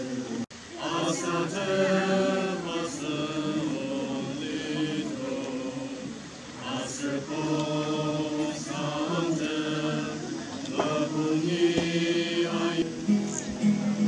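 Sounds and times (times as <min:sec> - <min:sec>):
group singing unaccompanied: 0:00.0 - 0:14.0.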